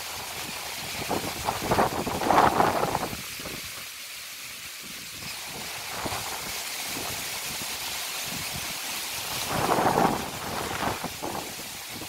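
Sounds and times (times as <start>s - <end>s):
rain hissing: 0.0s - 12.0s
wind gusting through palm fronds: 0.0s - 12.0s.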